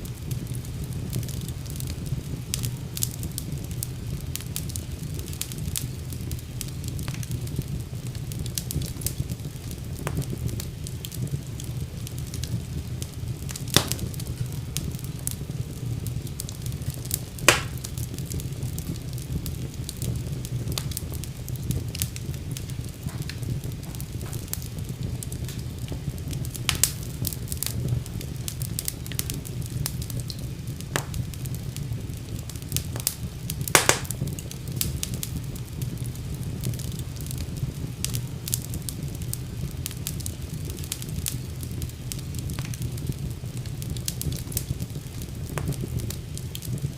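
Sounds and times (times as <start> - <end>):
fire crackling in a fireplace: 0.0 - 46.9.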